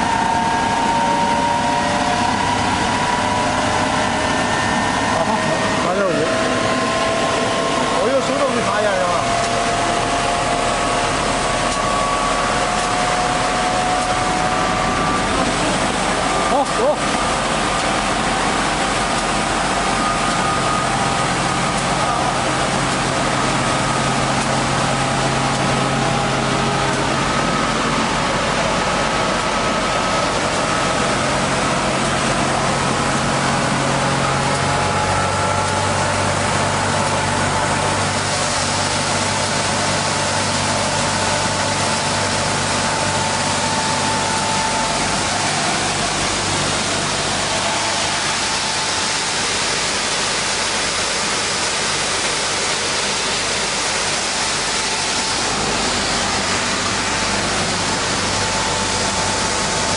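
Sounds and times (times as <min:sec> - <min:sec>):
wide-belt sander humming and hissing: 0:00.0 - 0:59.9.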